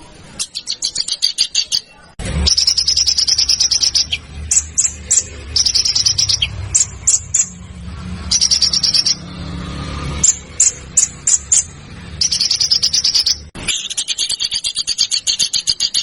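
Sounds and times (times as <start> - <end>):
songbird trills and piercing notes: 0.4 - 7.6, 8.2 - 9.3, 10.2 - 16.0.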